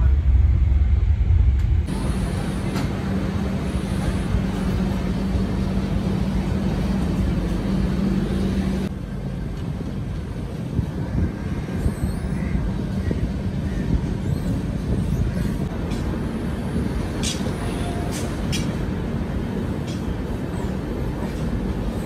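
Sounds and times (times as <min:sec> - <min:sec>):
train rumble inside coach: 0:00.0 - 0:22.0.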